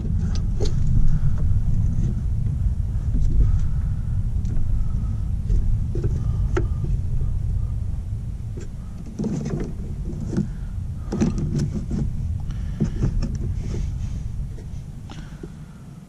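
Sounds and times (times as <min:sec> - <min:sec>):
hands handling wiring: 0:00.0 - 0:07.3, 0:08.5 - 0:15.6
steady low rumble: 0:00.0 - 0:16.0.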